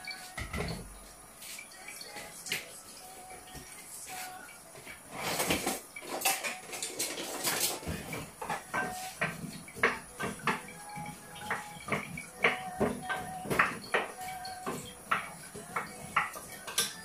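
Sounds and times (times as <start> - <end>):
dishes and utensils clattering: 0.0 - 17.0.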